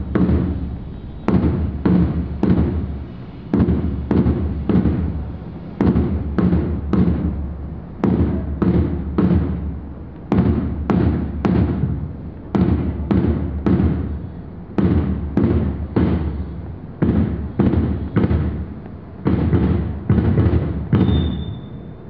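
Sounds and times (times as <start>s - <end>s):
drum beating a march rhythm: 0.0s - 21.4s.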